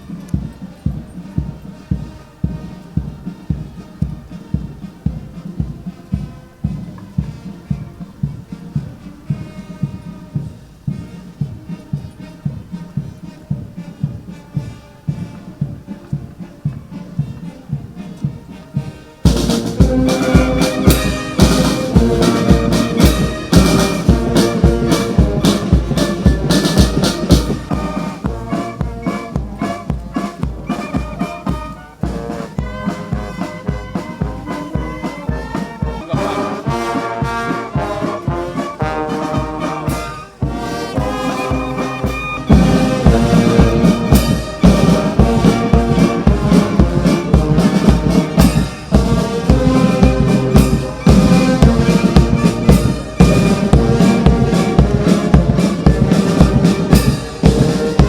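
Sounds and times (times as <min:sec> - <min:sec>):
brass band playing a march: 0:00.0 - 0:58.0
steady drum beat: 0:00.0 - 0:58.0.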